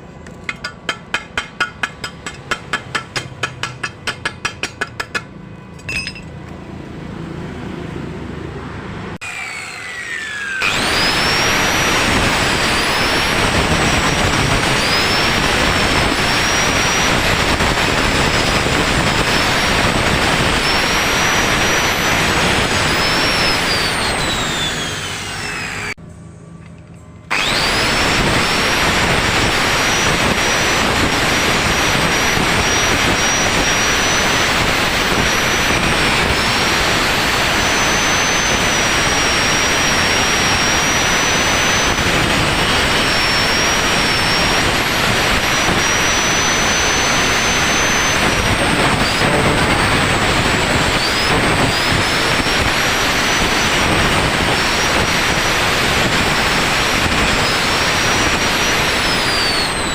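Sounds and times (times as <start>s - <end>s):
thin high whine: 9.8s - 59.9s
machine running with rushing noise: 10.6s - 26.4s, 27.2s - 59.9s.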